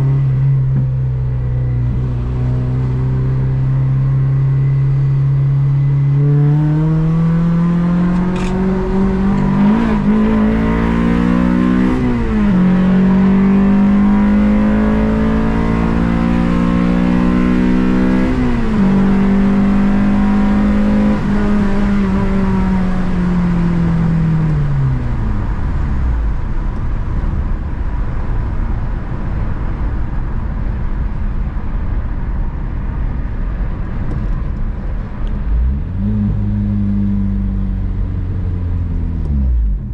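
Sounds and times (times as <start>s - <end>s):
car engine accelerating through gears: 0.0s - 28.3s, 32.8s - 39.9s
road noise: 0.0s - 39.9s.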